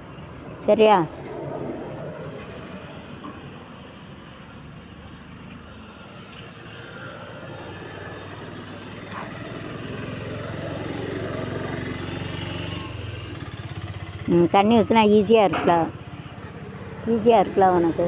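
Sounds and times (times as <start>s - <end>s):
vehicle engine running: 1.5s - 18.0s.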